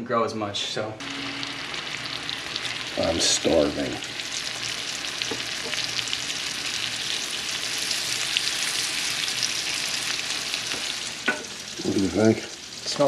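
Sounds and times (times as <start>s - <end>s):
fish sizzling in butter: 1.0s - 13.0s
spattering fat crackling and popping: 1.0s - 13.0s.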